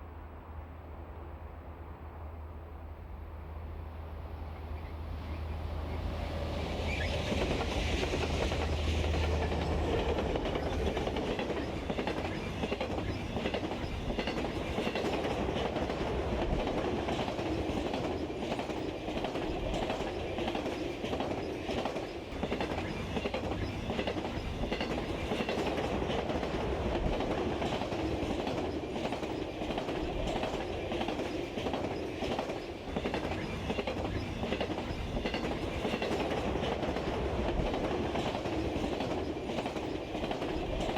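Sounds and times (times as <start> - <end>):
model train rattling on track: 5.9 - 40.9.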